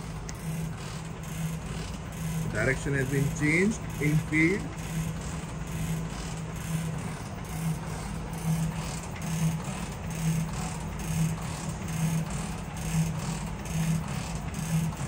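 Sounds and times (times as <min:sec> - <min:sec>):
slotting machine humming: 0:00.0 - 0:15.0.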